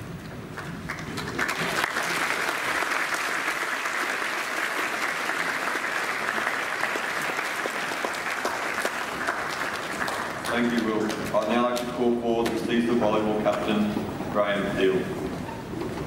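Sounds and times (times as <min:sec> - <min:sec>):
audience applauding: 0:00.4 - 0:13.8.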